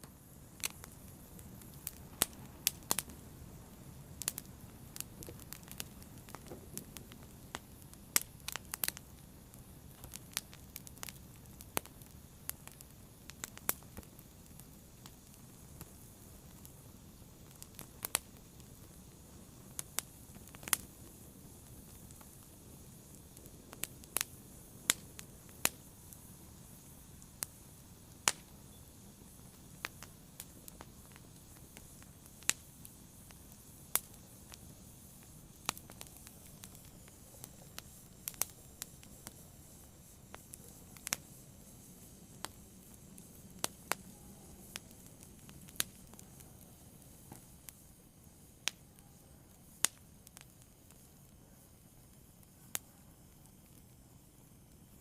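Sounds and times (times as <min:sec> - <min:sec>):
faint steady hiss: 0:00.0 - 0:55.0
fire crackling and popping: 0:00.0 - 0:55.0.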